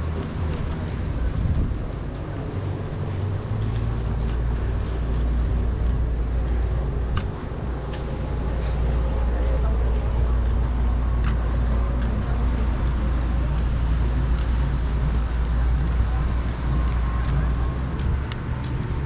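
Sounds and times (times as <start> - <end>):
motorboat engine droning: 0.0 - 19.0
water noise: 0.0 - 19.0
wind: 0.0 - 19.0.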